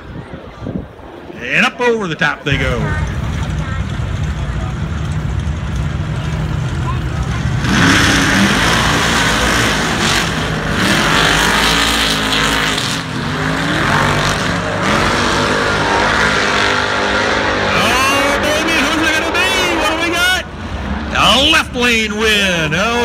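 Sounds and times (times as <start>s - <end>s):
truck engines revving hard: 1.5s - 23.0s.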